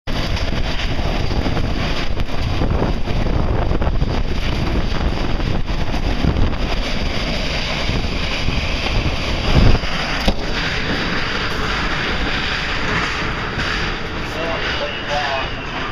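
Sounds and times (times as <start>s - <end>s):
strong wind rushing: 0.1s - 15.9s
wind buffeting microphone: 0.1s - 15.9s.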